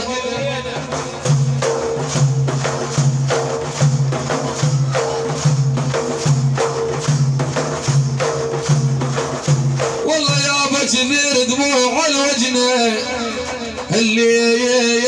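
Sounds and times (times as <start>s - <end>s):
hand percussion with jingles: 0.7s - 15.0s.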